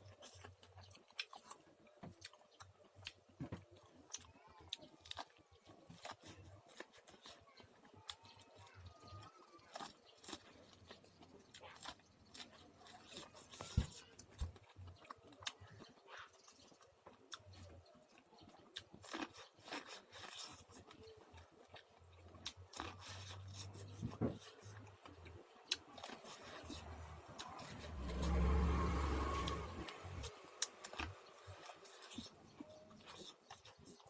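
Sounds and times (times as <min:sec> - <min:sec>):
person chewing popcorn: 0:00.0 - 0:34.0.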